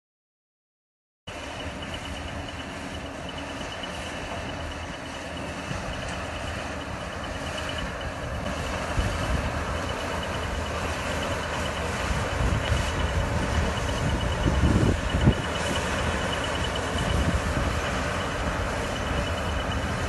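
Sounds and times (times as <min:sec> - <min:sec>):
combine harvester engine drone: 0:01.3 - 0:20.0
high whine: 0:01.3 - 0:20.0.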